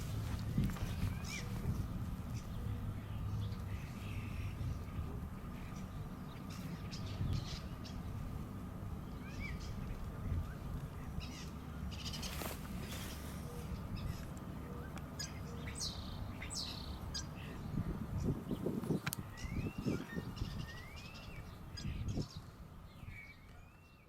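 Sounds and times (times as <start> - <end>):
birds chirping and calling: 0.0 - 24.0
low outdoor rumble: 0.0 - 24.0.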